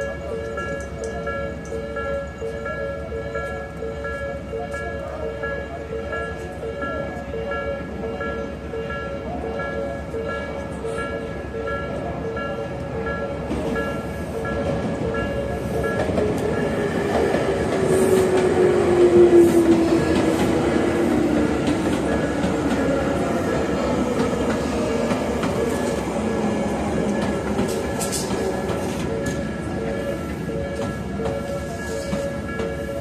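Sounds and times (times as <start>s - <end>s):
electric train passing: 0.0s - 33.0s
level crossing warning bell: 0.0s - 33.0s.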